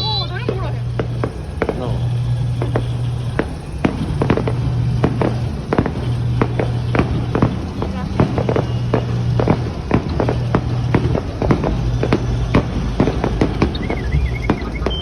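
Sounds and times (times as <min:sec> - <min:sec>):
fireworks bangs and cracks: 0:00.0 - 0:15.0
low steady hum: 0:00.0 - 0:15.0.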